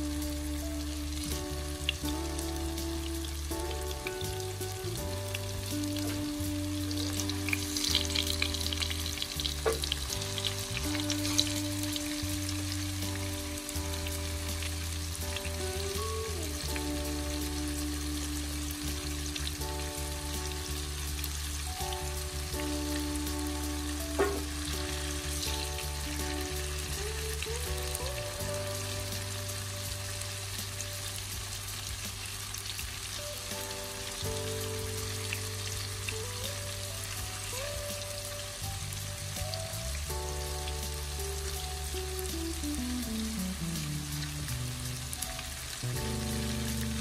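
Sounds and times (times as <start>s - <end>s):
soft background music: 0.0s - 47.0s
tofu sizzling in hot oil: 0.0s - 47.0s.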